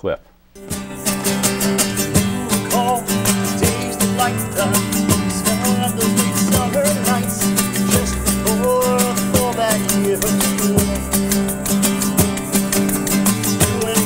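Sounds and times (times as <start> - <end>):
acoustic guitar strumming: 0.6 - 14.0.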